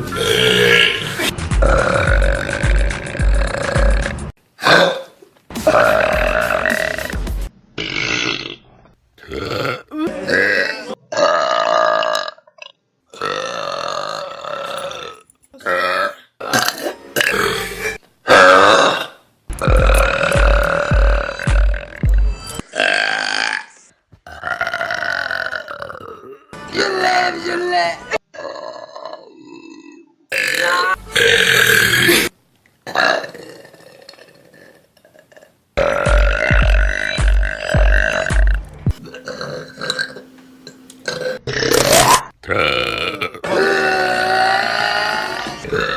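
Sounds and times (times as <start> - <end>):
people burping loudly: 0.0 - 7.2, 7.8 - 45.9.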